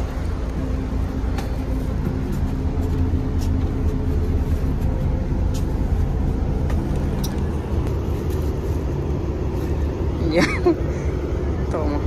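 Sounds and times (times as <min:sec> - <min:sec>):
road rumble: 0:00.0 - 0:12.0
vehicle engine hum: 0:00.0 - 0:12.0.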